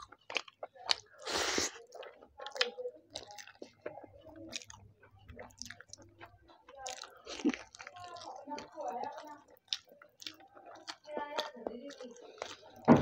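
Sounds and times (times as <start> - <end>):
wet chewing and mouth smacks: 0.0 - 12.9.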